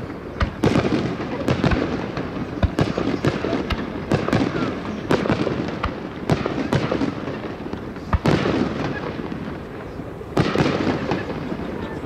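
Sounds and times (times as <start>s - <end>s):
fireworks bursting: 0.0s - 12.0s
fireworks crackling: 0.0s - 12.0s.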